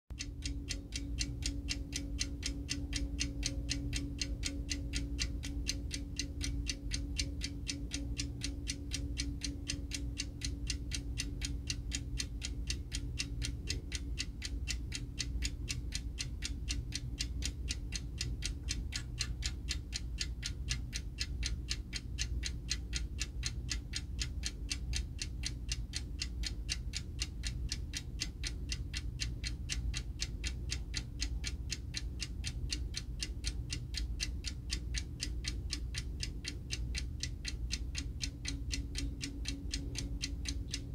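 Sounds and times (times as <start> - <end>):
clock ticking: 0.1 - 40.9.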